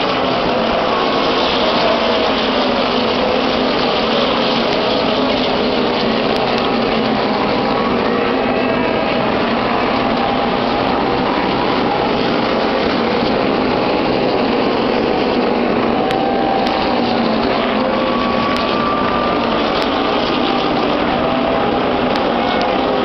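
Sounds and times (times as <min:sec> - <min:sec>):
race car engines droning: 0:00.0 - 0:23.0.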